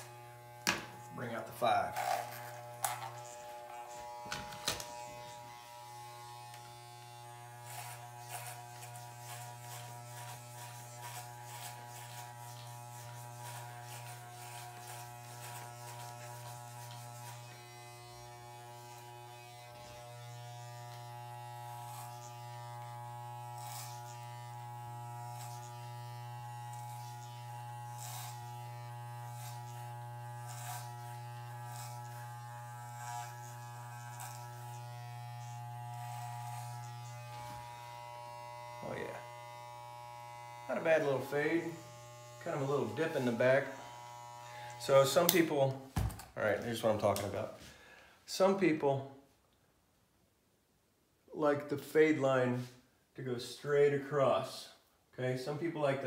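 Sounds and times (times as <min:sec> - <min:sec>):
electric hair clippers buzzing: 0:00.0 - 0:47.5
blades crackling through hair: 0:00.0 - 0:47.6.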